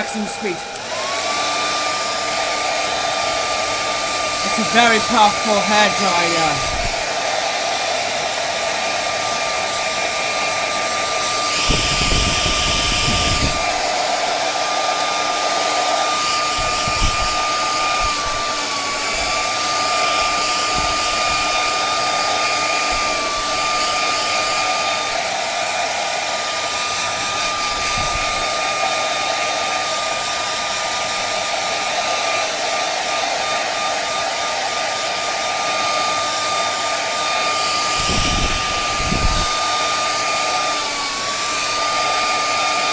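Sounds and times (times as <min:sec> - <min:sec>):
hair dryer running: 0:00.0 - 0:42.9.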